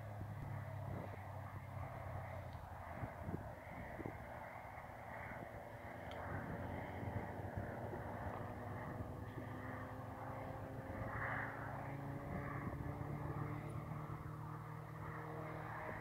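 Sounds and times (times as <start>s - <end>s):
propeller aeroplane engine droning: 0.0s - 16.0s.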